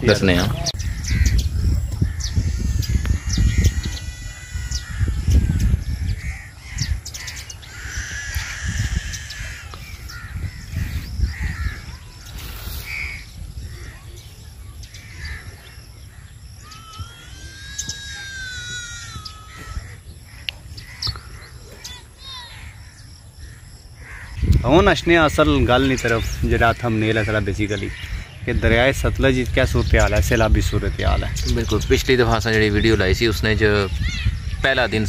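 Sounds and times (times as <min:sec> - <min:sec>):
harsh bird calls: 0:00.0 - 0:35.0.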